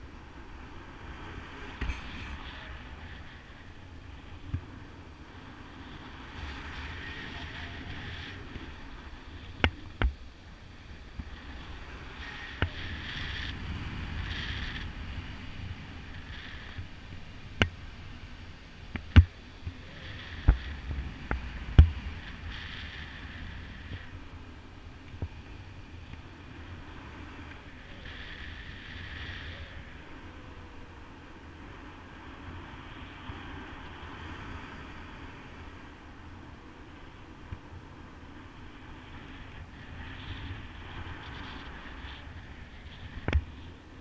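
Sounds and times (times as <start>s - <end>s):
wind rushing over microphone: 0.0s - 44.0s.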